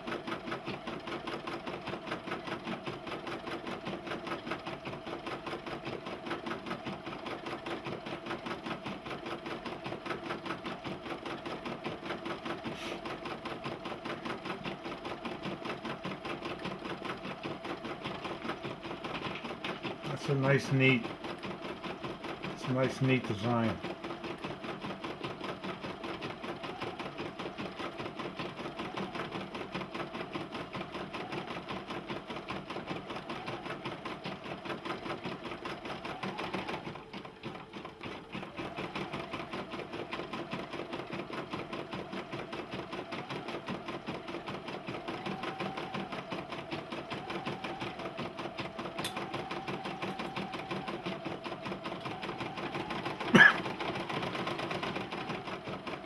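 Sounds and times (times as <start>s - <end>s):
embroidery machine stitching: 0.0s - 56.0s.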